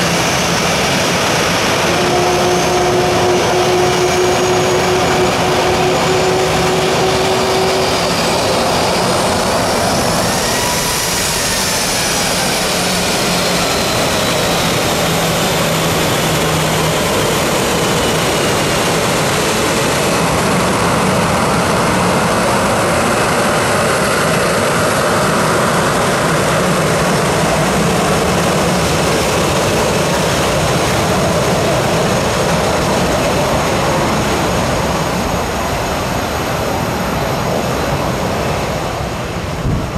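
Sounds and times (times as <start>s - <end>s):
jet engine whine: 0.0s - 39.9s
jet engines at taxi power: 0.0s - 39.9s.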